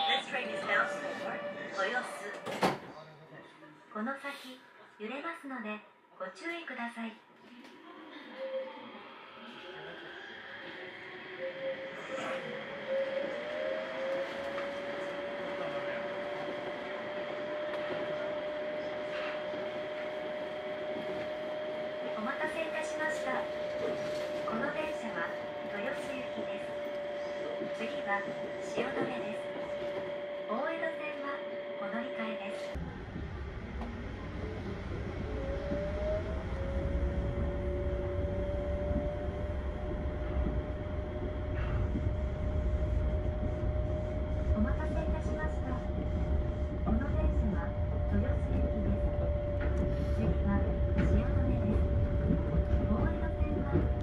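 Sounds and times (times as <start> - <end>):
train running and tyre noise: 8.0 - 54.0.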